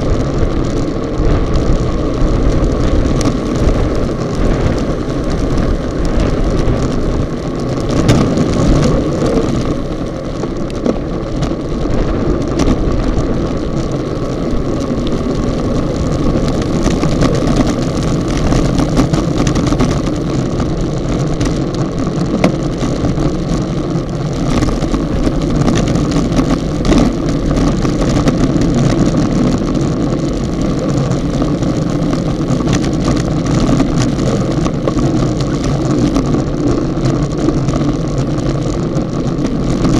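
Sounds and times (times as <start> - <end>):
tyre and road noise: 0.0 - 39.9
wind on microphone: 0.0 - 39.9.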